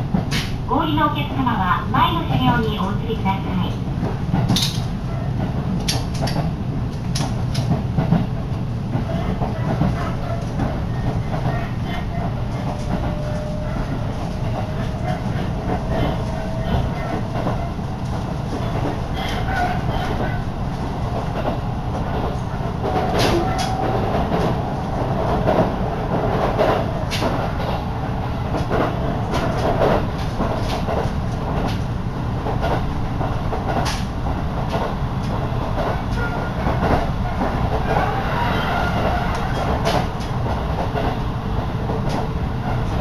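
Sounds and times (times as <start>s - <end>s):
train wheels rumbling: 0.0s - 43.0s
wheels clacking over rail joints: 4.0s - 43.0s.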